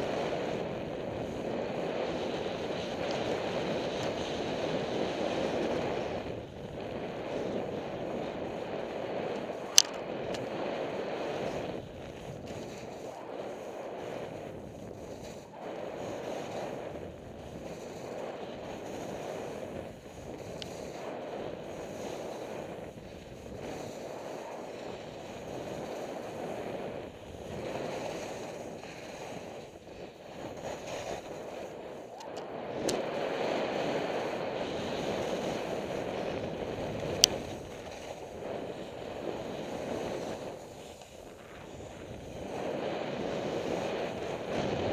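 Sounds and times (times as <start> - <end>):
skis carving on snow: 0.0 - 44.9
wind on microphone: 0.0 - 44.9.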